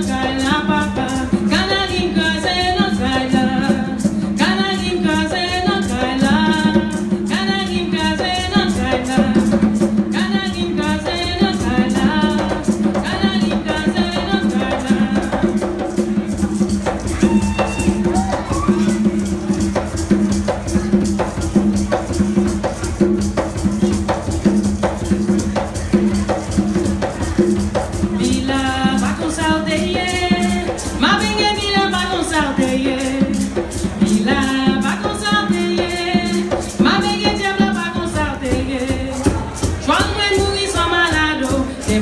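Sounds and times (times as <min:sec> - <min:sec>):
woman singing: 0:00.0 - 0:19.2, 0:27.2 - 0:42.0
hand drum: 0:00.0 - 0:42.0.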